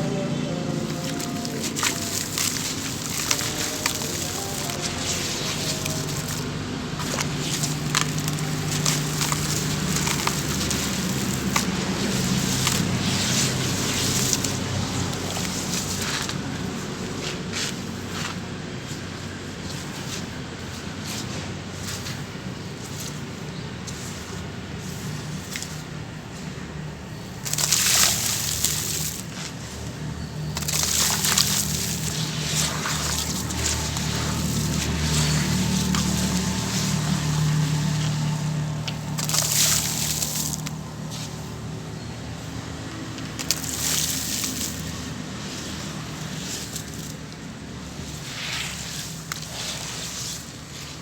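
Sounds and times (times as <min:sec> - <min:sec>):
chunks crumbling and fizzing in water: 0:00.6 - 0:51.0.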